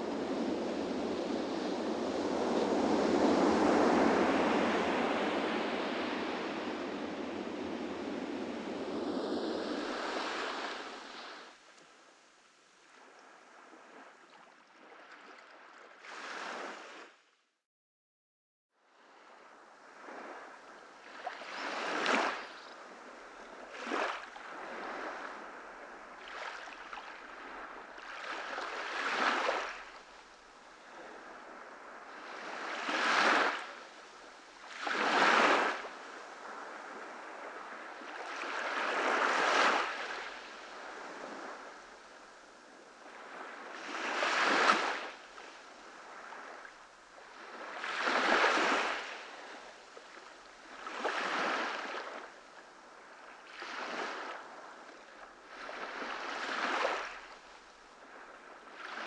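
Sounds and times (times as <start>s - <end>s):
ocean waves breaking on beach: 0.0s - 12.2s, 19.4s - 59.0s.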